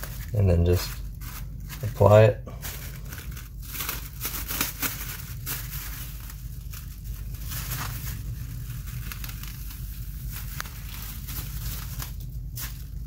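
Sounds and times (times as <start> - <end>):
plastic sheet crinkling: 0.0 - 13.0.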